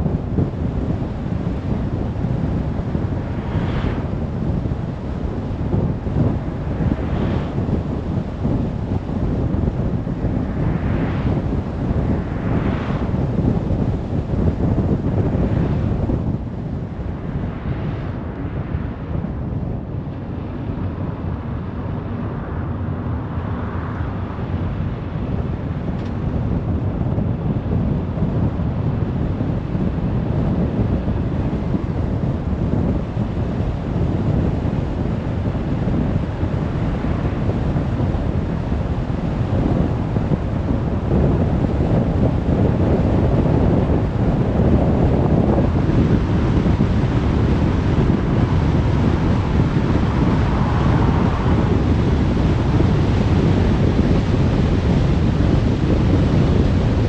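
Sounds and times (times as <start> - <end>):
car wind and road noise: 0.0 - 57.0.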